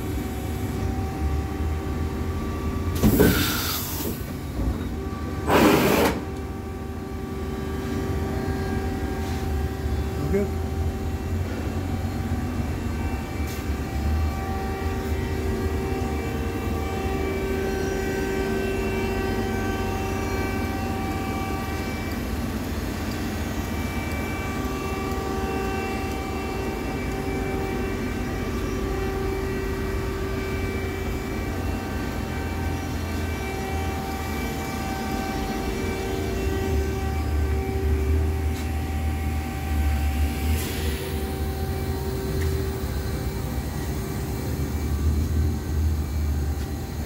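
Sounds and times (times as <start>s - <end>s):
machine hum with whining tones: 0.0s - 47.0s.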